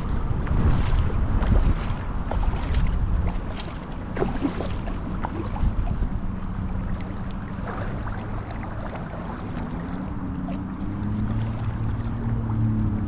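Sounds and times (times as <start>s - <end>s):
water splashing around kayak: 0.0s - 13.0s
wind rumble on microphone: 0.0s - 13.0s.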